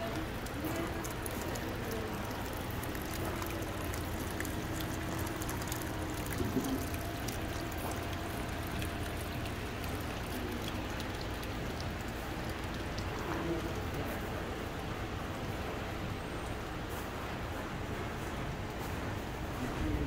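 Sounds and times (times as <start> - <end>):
water trickling down rocks: 0.0 - 17.0.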